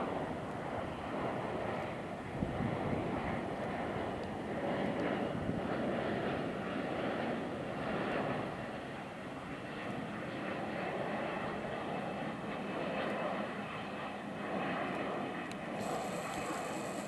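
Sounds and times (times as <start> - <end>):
jet airliner landing: 0.0 - 17.0.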